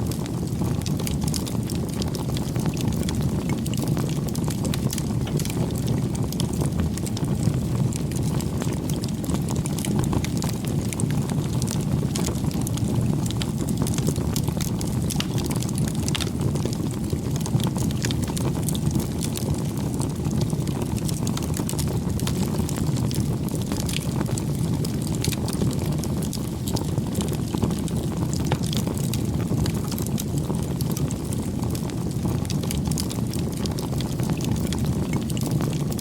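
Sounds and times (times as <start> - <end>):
campfire crackling and popping: 0.0 - 36.0
low rumble of flames: 0.0 - 36.0.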